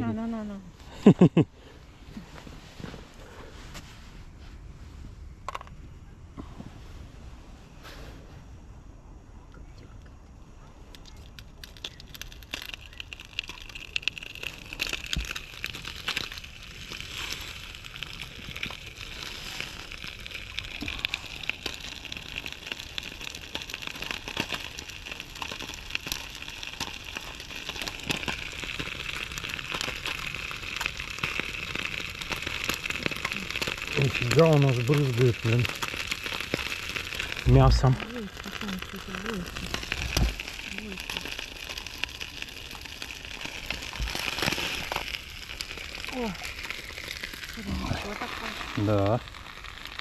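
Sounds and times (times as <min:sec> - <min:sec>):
pilaf sizzling and popping: 0:00.0 - 0:04.0, 0:05.3 - 0:06.5, 0:09.6 - 0:50.0.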